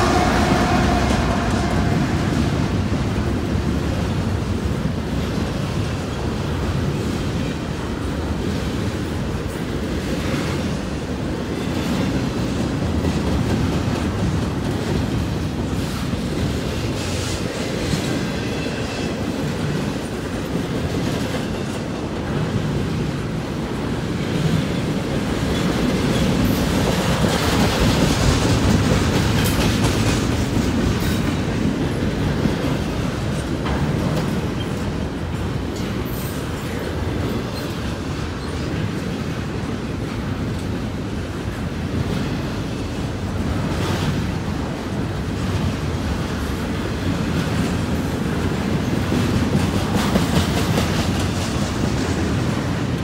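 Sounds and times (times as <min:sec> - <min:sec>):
train wheels rumbling on rail: 0:00.0 - 0:53.0
wheels clacking over rail joints: 0:00.0 - 0:53.0.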